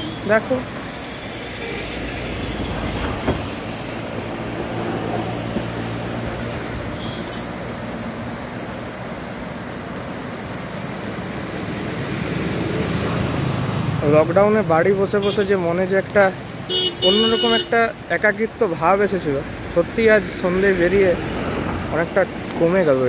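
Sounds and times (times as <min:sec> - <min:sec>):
river current rushing: 0:00.0 - 0:23.0
traffic engine hum: 0:00.0 - 0:23.0.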